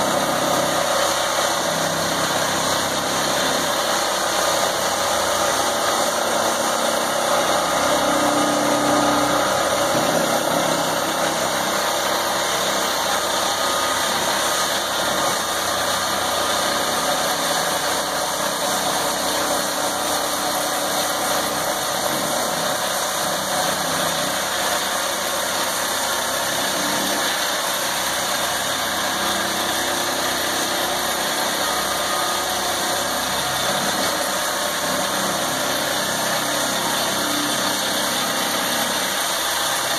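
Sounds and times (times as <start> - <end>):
diesel machinery engines running: 0.0 - 38.6.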